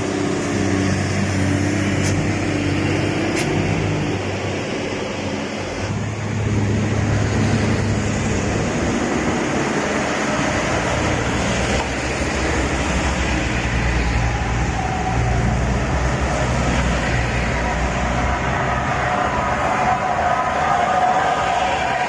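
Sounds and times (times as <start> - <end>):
diesel engines droning: 0.0 - 22.0
road noise: 0.0 - 22.0.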